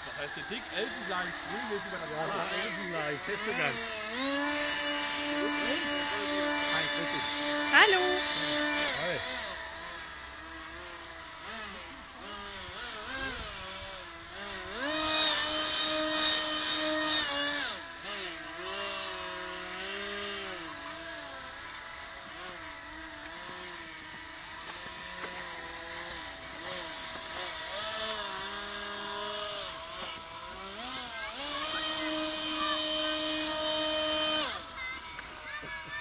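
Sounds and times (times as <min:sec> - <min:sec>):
toy motors whining: 0:00.0 - 0:36.0.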